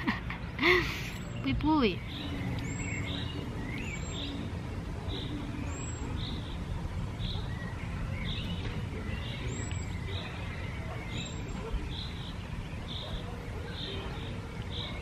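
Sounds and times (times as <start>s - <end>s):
birds calling: 0.0s - 15.0s
low outdoor rumble: 0.0s - 15.0s.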